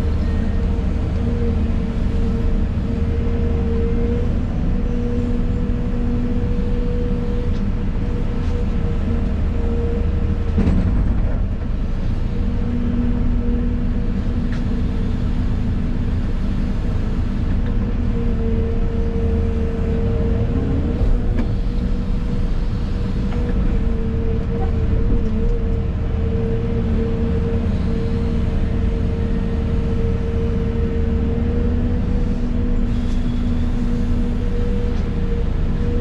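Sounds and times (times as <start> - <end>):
excavator engine hum: 0.0 - 36.0.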